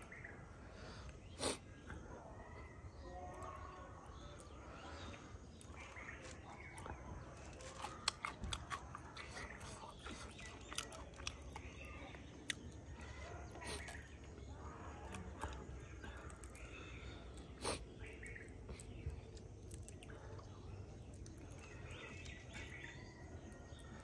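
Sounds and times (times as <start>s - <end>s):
faint birds calling: 0.0s - 24.0s
quiet eating sounds: 0.0s - 24.0s.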